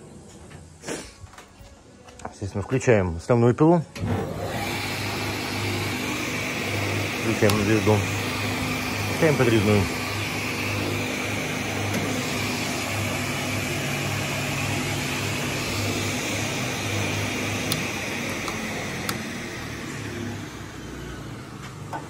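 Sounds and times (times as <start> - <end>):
saw motor hum and blade whine: 4.0 - 22.0.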